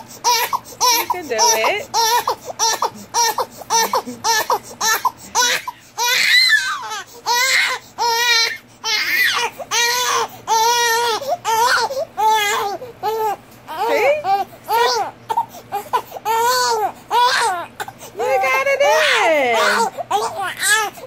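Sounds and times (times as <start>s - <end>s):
baby crying: 0.0s - 21.0s.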